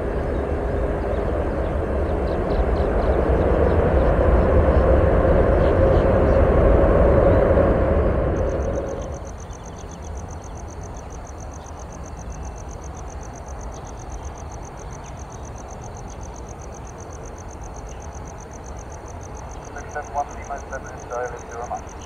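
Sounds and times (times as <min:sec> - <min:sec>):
jet aircraft noise: 0:00.0 - 0:22.0
steady low rumble: 0:00.0 - 0:22.0.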